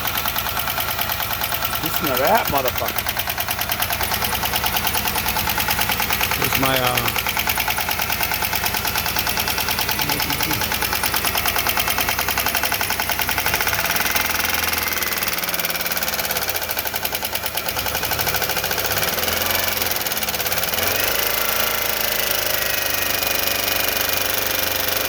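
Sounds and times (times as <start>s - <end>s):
engine running with ticking: 0.0s - 25.0s.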